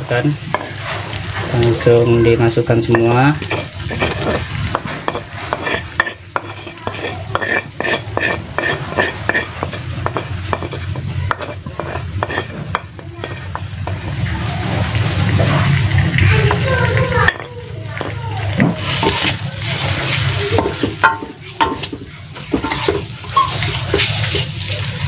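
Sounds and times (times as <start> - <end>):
fish frying in oil: 0.0 - 25.0
metal spatula scraping a wok: 0.1 - 25.0.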